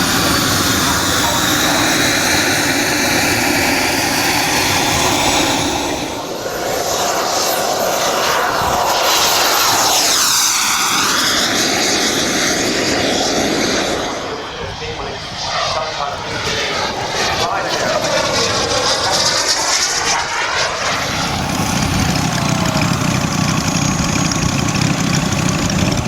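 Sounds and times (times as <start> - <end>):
model aircraft engine: 0.0 - 26.0.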